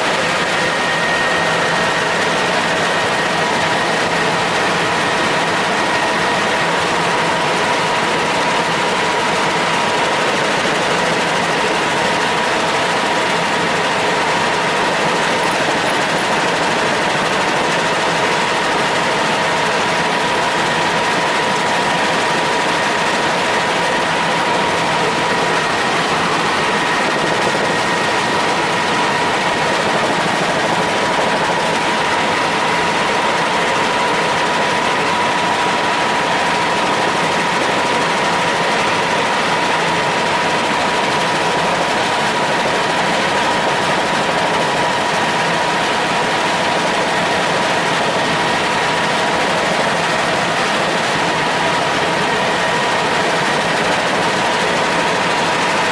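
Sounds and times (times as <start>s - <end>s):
helicopter turbine and rotor noise: 0.0s - 55.9s.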